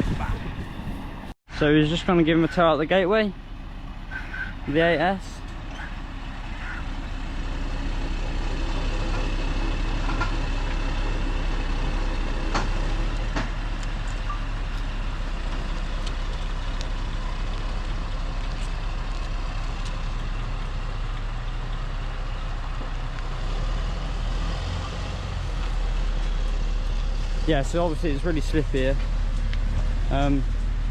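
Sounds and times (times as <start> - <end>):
heavy diesel engines droning: 0.0 - 30.9.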